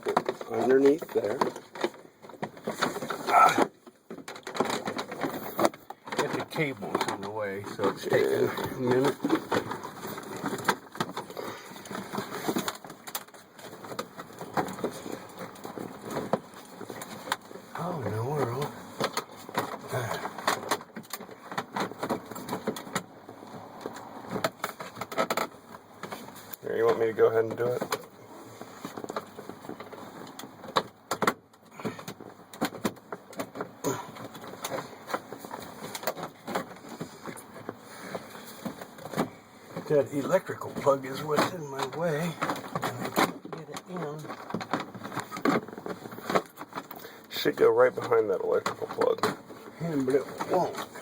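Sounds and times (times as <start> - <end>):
hoses and cables rustling: 0.0 - 51.0
plastic clicking and scraping: 0.0 - 51.0.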